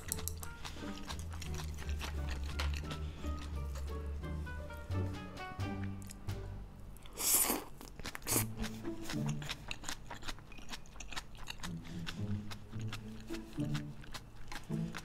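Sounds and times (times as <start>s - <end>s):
close-up chewing: 0.0s - 4.2s, 7.0s - 15.0s
soft background music: 0.0s - 15.0s.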